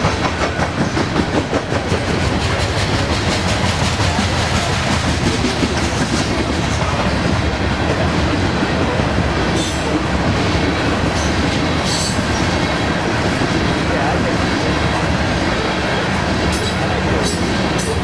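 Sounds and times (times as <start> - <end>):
freight train cars rumbling: 0.0 - 18.0.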